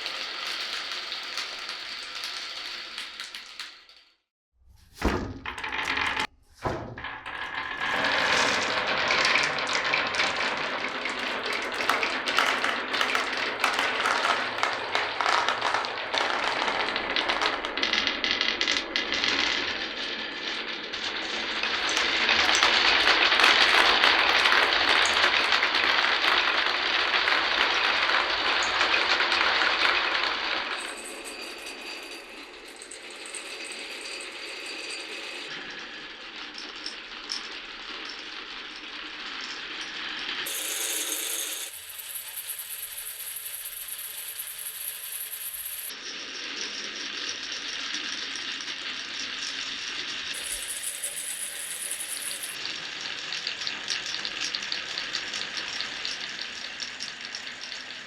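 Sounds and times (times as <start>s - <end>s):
marbles clattering and rolling: 0.0s - 4.2s, 5.4s - 6.3s, 7.0s - 58.0s.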